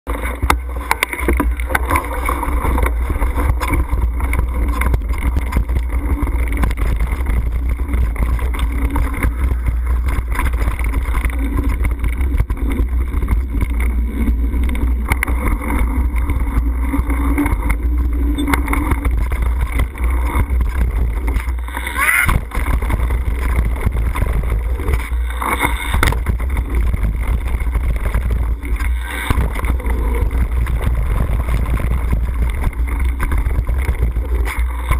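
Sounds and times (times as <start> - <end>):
wind buffeting microphone: 1.3 - 34.9.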